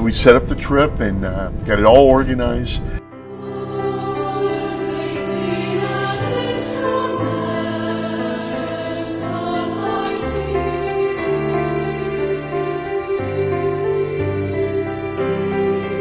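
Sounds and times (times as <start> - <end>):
choir singing held chords: 3.0 - 16.0.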